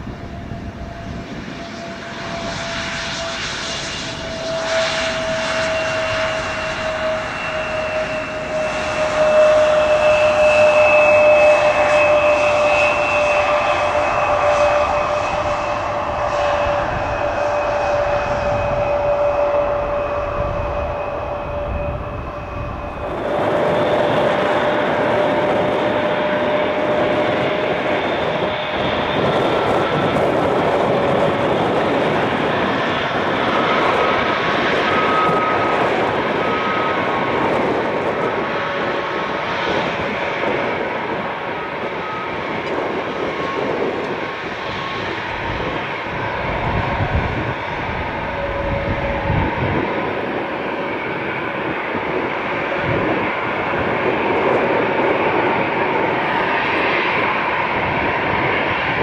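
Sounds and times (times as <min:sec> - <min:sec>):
jet engines rushing: 0:00.0 - 0:59.0.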